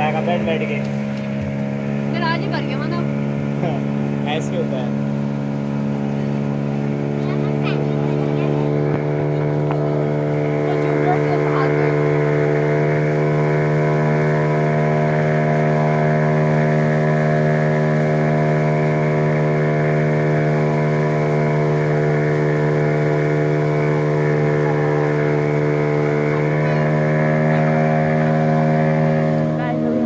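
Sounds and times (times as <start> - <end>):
boat motor droning: 0.0 - 30.0.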